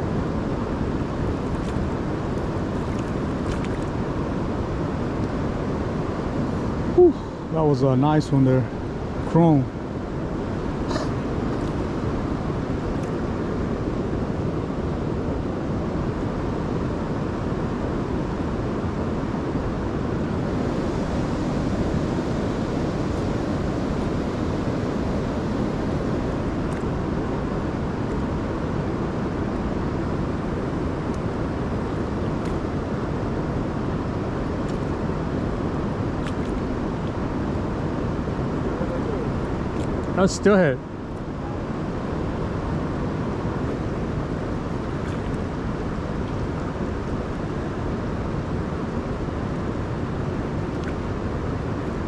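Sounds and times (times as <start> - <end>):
river current rushing: 0.0 - 52.0.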